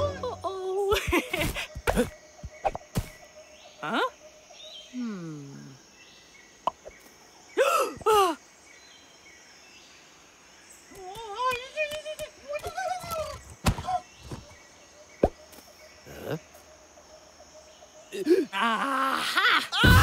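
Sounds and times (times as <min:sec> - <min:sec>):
faint jungle ambience: 0:00.0 - 0:20.0.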